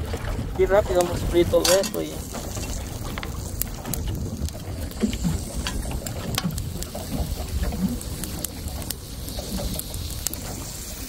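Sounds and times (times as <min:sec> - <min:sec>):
water against boat hull: 0:00.0 - 0:11.0
wind on microphone: 0:00.0 - 0:11.0.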